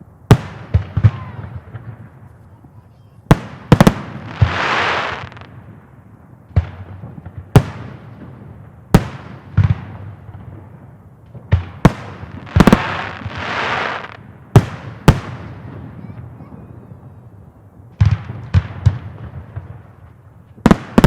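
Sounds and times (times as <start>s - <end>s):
fireworks bangs: 0.0s - 5.9s, 6.5s - 21.0s
fireworks crackling hiss: 0.0s - 21.0s.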